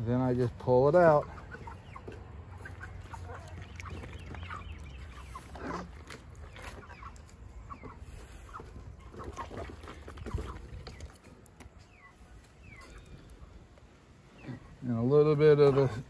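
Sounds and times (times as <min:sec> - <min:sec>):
chickens clucking: 0:00.2 - 0:16.0.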